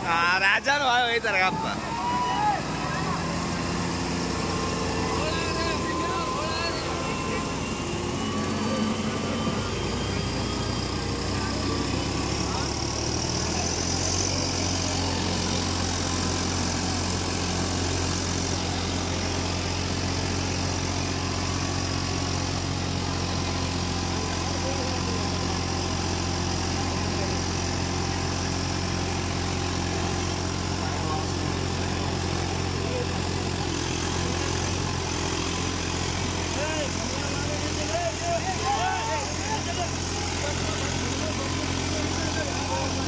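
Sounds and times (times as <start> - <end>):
tractor diesel engine droning: 0.0 - 43.0.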